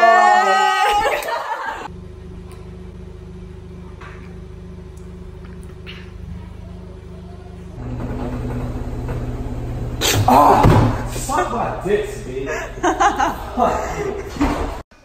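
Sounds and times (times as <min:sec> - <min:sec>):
steady low hum: 0:01.8 - 0:14.5.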